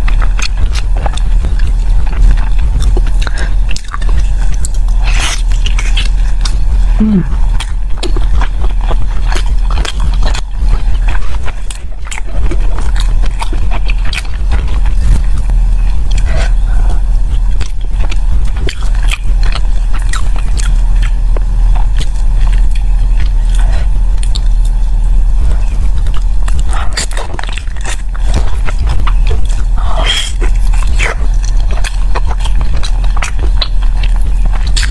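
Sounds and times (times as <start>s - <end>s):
close-miked chewing: 0.0s - 34.9s
steady low hum: 0.0s - 34.9s.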